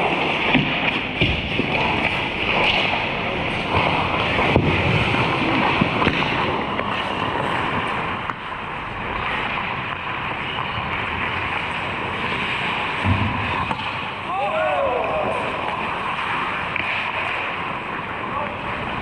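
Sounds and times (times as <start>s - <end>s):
skates scraping ice: 0.0s - 19.0s.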